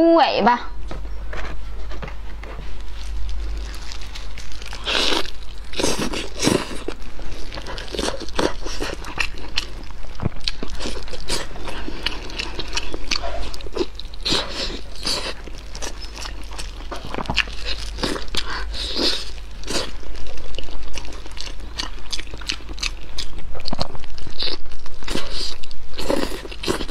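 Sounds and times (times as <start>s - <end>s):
close-miked eating and chewing: 1.4s - 26.9s.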